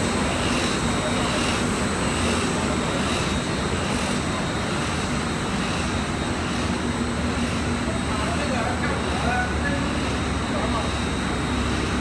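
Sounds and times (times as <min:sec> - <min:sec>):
high constant machine whine: 0:00.0 - 0:12.0
printing press drone: 0:00.0 - 0:12.0.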